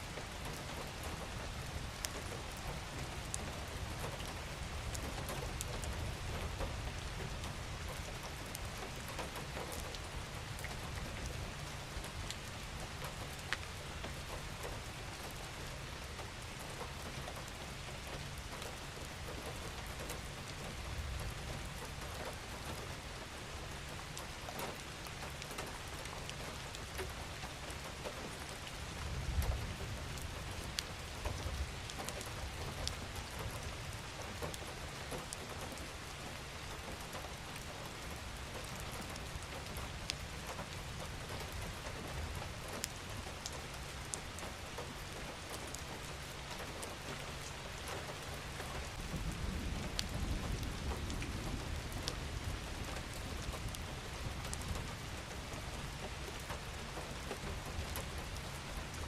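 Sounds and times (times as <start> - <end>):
raindrops ticking on a surface: 0.0 - 59.0.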